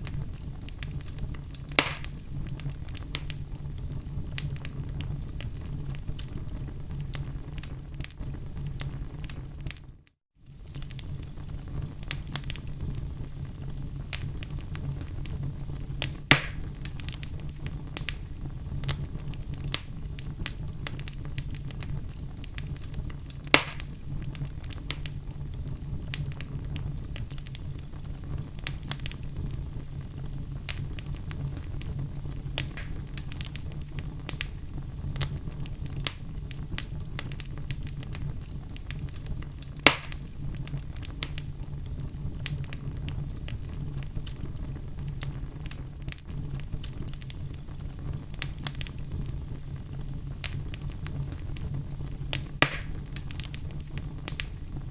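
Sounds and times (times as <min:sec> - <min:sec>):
loud sharp fire pops: 0:00.0 - 0:09.9, 0:10.5 - 0:54.8
fire rumbling and crackling: 0:00.0 - 0:54.9.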